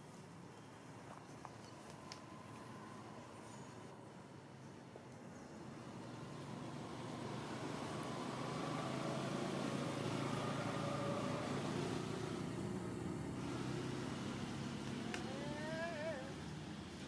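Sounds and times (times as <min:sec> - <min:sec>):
vehicle engine humming: 0:00.6 - 0:17.0.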